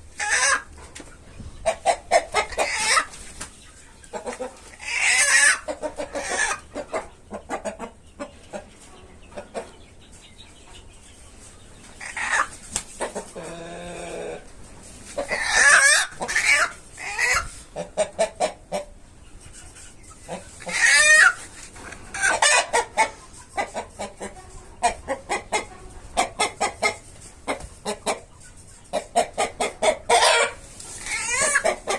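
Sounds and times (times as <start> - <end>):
chickens clucking: 0.0 - 31.9
drawn-out chicken calls: 0.0 - 31.9.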